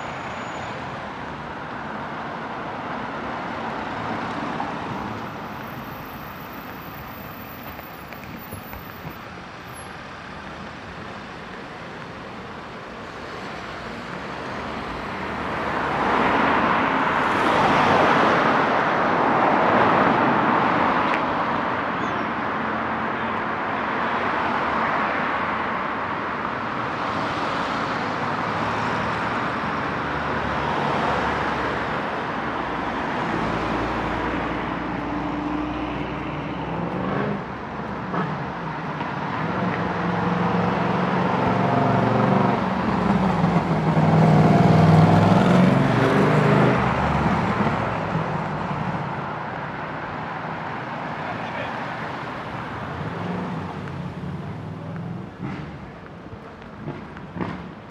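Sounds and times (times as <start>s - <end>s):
cars passing on street: 0.0s - 57.9s.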